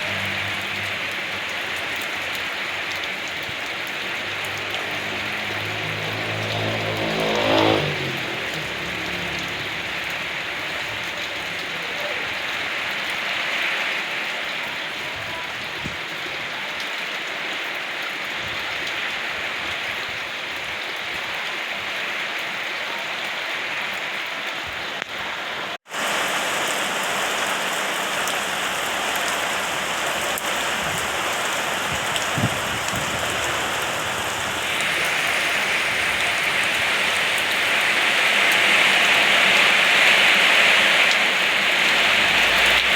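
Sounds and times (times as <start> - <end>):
rain pattering on surfaces: 0.0 - 42.9.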